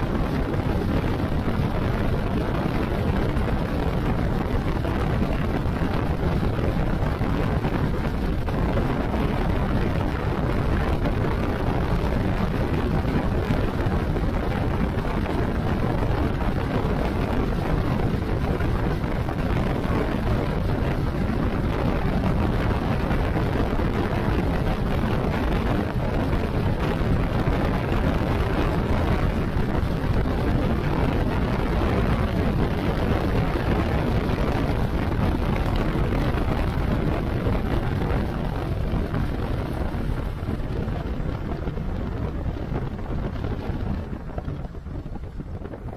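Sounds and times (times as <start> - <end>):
motorcycle engine drone: 0.0 - 45.9
wind rushing over microphone: 0.0 - 45.9.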